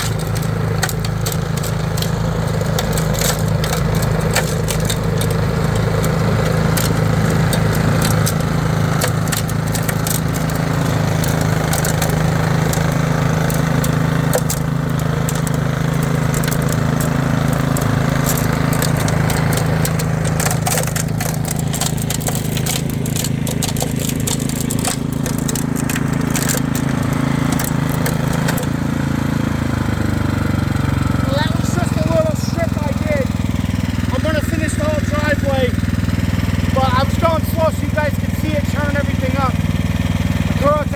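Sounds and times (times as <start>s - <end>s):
snowblower running: 0.0s - 40.9s.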